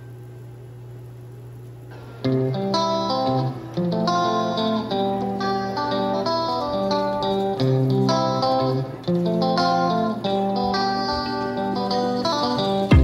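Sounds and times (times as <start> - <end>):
plucked guitar music: 1.9 - 13.0.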